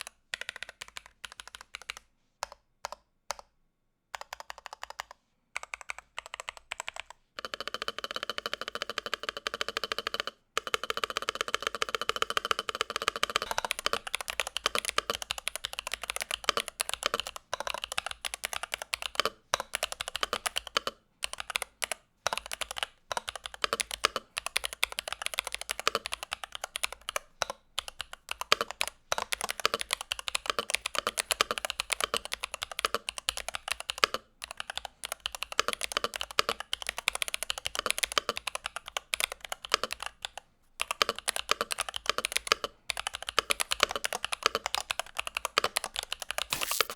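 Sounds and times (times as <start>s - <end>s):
mechanical keyboard typing: 0.0s - 3.5s, 4.1s - 46.9s.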